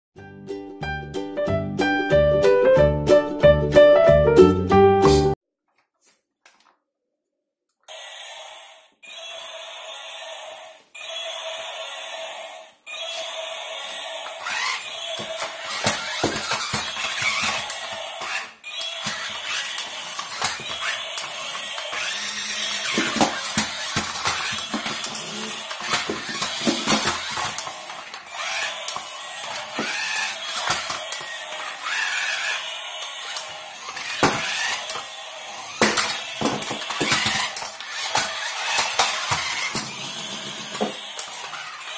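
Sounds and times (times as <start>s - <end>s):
toy car electric motors whirring: 7.9s - 41.9s.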